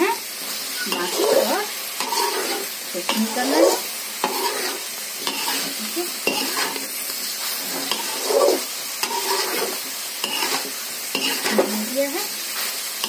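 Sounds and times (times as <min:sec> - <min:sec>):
food sizzling in a pan: 0:00.0 - 0:13.0
spatula scraping vegetables: 0:00.0 - 0:13.0.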